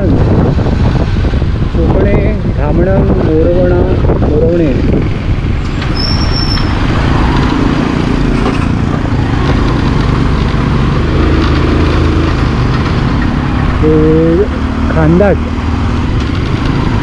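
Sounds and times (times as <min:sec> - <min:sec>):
motorcycle engine cruising: 0:00.0 - 0:17.0
road noise: 0:00.0 - 0:17.0.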